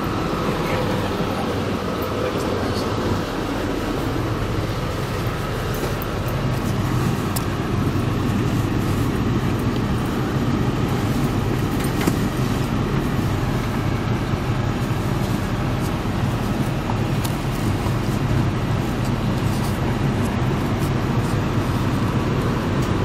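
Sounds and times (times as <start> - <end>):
diesel engine drone: 0.0 - 23.0
train wheel and rail noise: 0.0 - 23.0.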